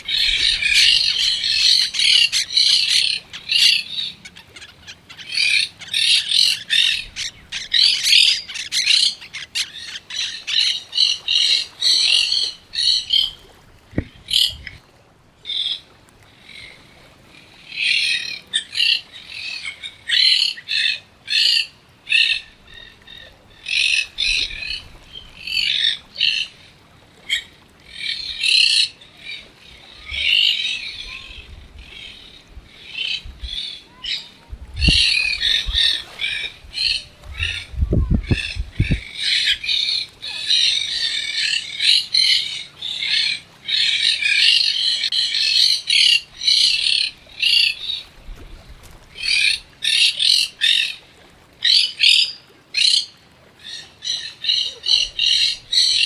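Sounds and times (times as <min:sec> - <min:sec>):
birds chattering and squawking: 0:00.0 - 0:14.8, 0:15.5 - 0:51.0, 0:51.6 - 0:56.0.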